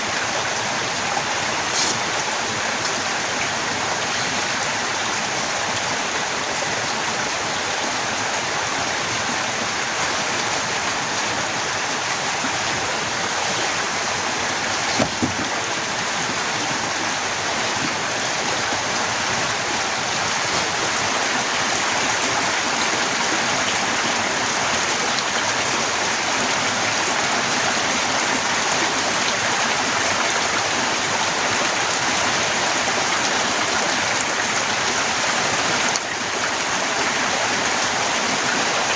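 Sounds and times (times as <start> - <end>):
torrential rain: 0.0 - 38.9.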